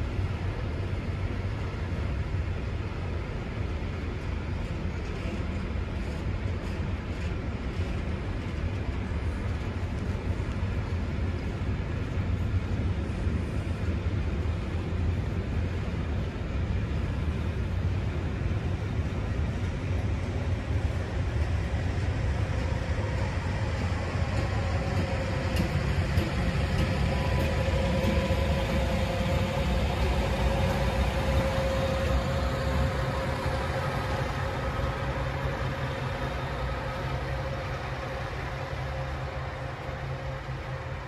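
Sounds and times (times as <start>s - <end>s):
faint whine: 0.0s - 41.0s
freight train wheels rumbling on rails: 0.0s - 41.0s.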